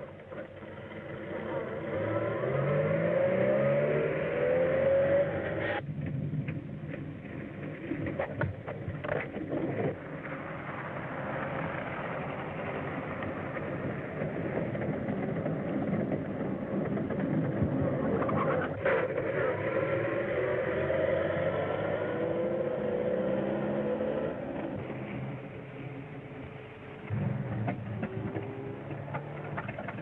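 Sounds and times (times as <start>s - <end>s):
vehicle engine running: 0.0s - 20.5s, 21.7s - 30.0s.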